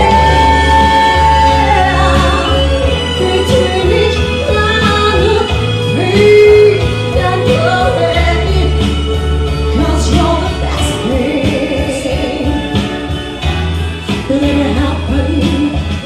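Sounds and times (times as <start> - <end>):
woman singing into a microphone: 0.0 - 13.2, 14.0 - 16.0
pop accompaniment with bass and beat: 0.0 - 16.0.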